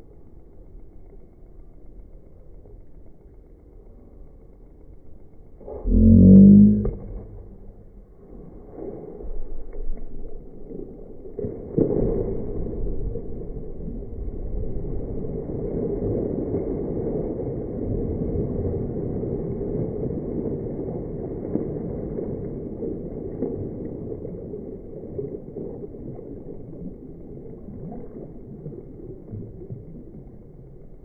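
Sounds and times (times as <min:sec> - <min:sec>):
deep muffled water churning: 0:00.0 - 0:31.0.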